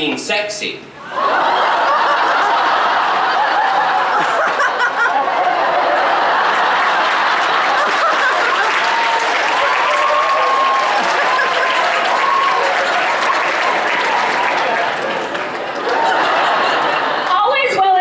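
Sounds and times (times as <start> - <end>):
large audience laughing: 1.0 - 17.8.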